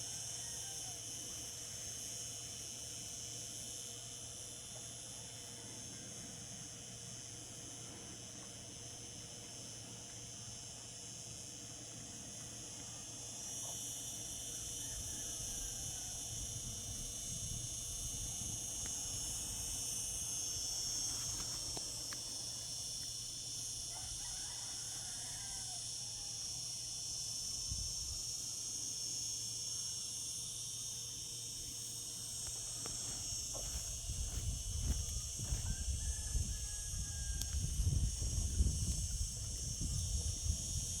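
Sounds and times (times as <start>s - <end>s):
cicadas singing: 0.0s - 41.0s.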